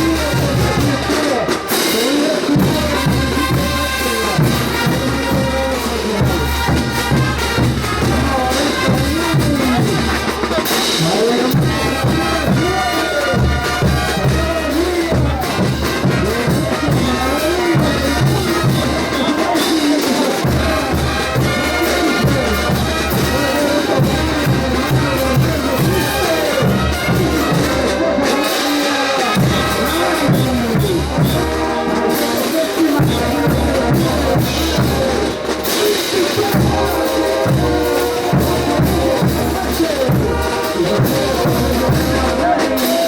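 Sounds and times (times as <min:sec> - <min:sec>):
brass band melody: 0:00.0 - 0:43.0
pounding drum beat: 0:00.0 - 0:43.0.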